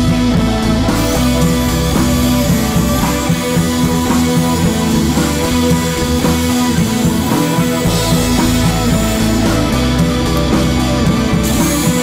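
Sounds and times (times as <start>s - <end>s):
guitar-led rock music: 0.0s - 12.0s.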